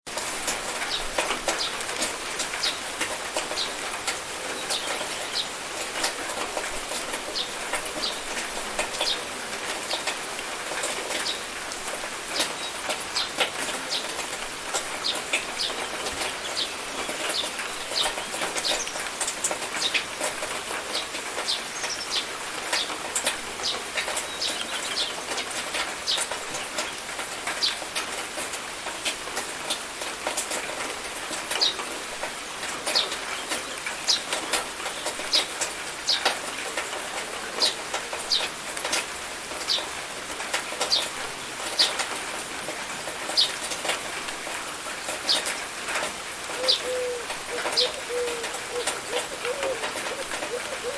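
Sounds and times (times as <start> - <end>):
rain falling steadily: 0.0 - 50.9
raindrops splashing close by: 0.1 - 50.9.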